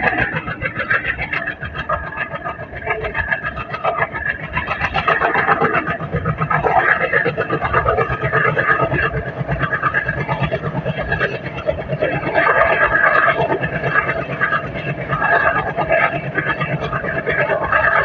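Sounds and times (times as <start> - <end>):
diesel locomotive engine running: 0.0 - 18.0
train wheels rattling: 0.0 - 18.0.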